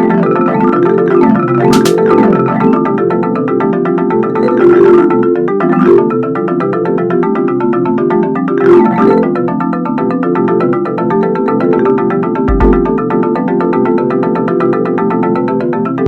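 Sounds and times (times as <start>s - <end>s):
marimba-like ringtone tune: 0.1s - 16.0s.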